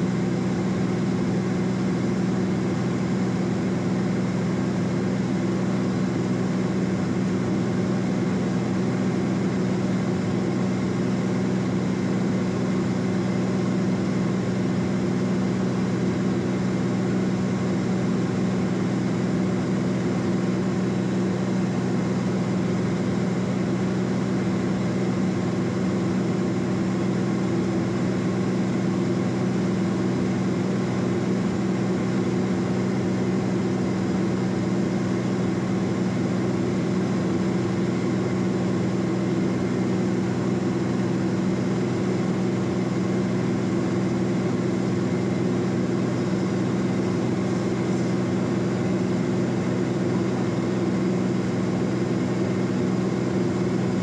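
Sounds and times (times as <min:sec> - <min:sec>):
airplane engine and propeller droning: 0:00.0 - 0:54.0.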